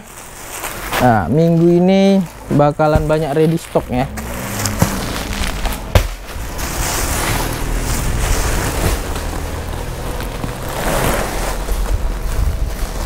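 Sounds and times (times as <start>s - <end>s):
plastic sack rustling and crinkling: 0.0s - 13.0s.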